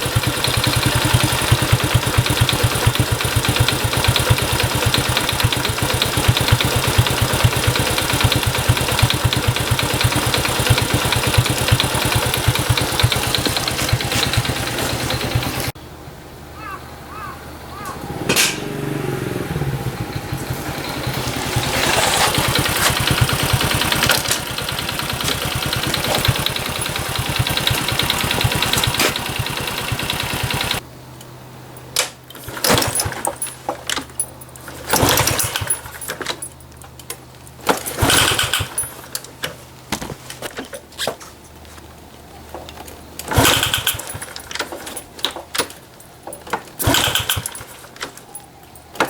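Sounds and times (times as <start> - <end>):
small motorcycle engine running: 0.0 - 15.8, 16.6 - 30.9, 32.3 - 36.8, 37.5 - 40.6, 42.8 - 49.0.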